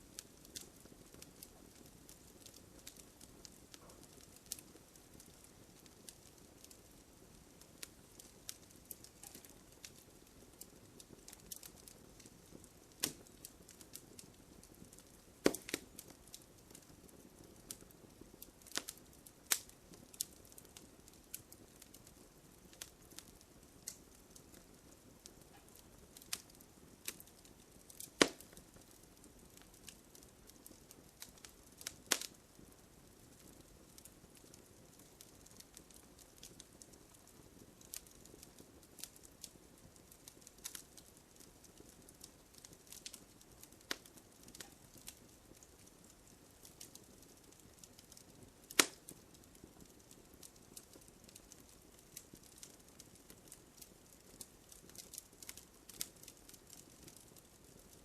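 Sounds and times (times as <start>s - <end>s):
campfire crackling: 0.0s - 58.0s
low hiss of flames: 0.0s - 58.0s.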